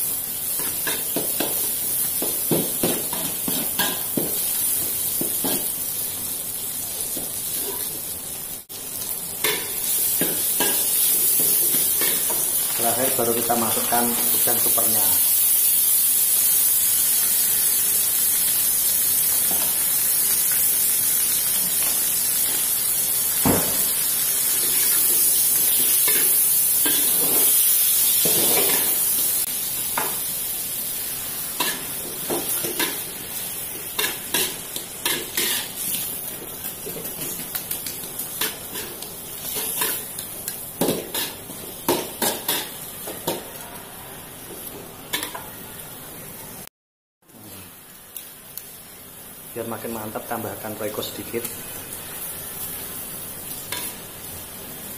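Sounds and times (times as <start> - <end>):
food sizzling in a wok: 0.0 - 46.7, 47.3 - 54.9.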